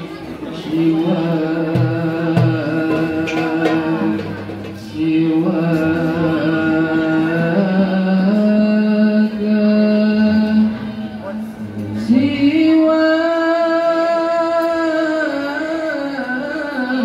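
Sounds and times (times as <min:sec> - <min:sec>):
man chanting into a microphone: 0:00.5 - 0:17.0.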